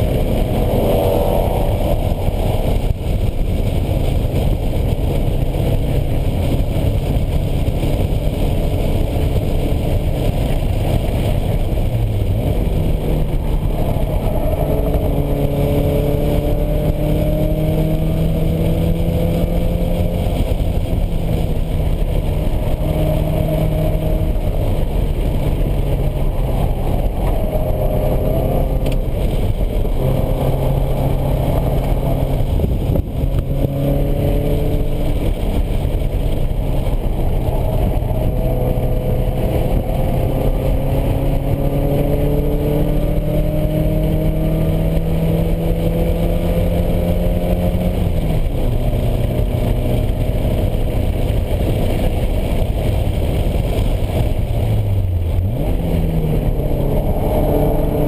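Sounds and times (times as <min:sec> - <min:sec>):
car engine revving: 0:00.0 - 0:58.0
road rumble: 0:00.0 - 0:58.0
wind noise: 0:00.0 - 0:58.0.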